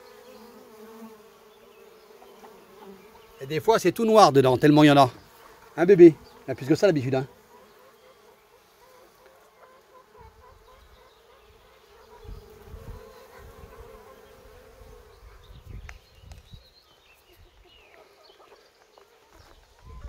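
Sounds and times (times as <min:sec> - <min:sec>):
bees buzzing: 0:00.0 - 0:16.4.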